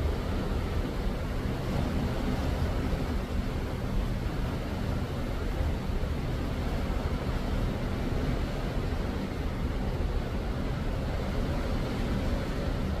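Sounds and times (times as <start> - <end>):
sea water rushing: 0.0 - 13.0
ship engine low rumble: 0.0 - 13.0.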